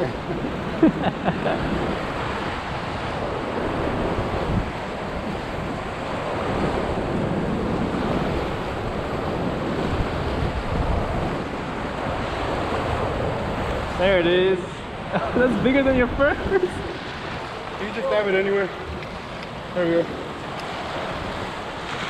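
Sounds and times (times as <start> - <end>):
surf washing against rocks: 0.0 - 22.0
wind on microphone: 0.0 - 22.0.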